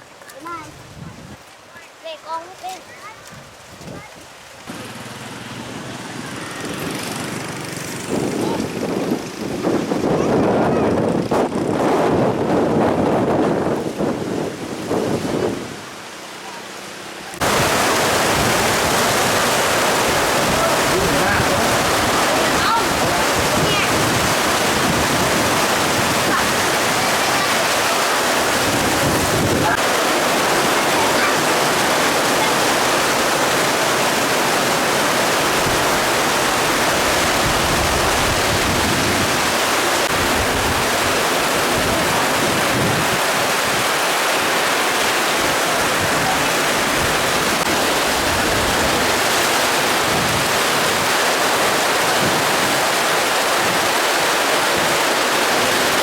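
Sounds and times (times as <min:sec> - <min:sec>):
heavy rain hiss: 0:00.0 - 0:56.0
wind rumbling on microphone: 0:00.5 - 0:01.6, 0:03.1 - 0:16.1, 0:17.4 - 0:56.0.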